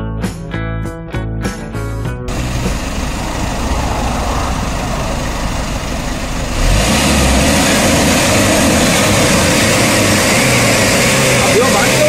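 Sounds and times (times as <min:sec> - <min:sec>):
diesel truck engine revving: 0:02.3 - 0:12.0.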